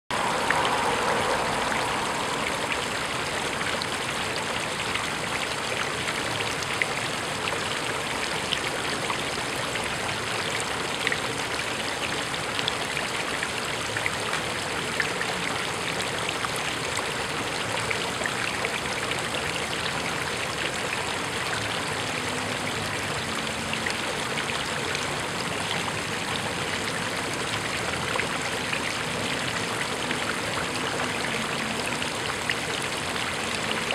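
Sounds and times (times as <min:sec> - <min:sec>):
fountain water splashing into pool: 0:00.1 - 0:33.9.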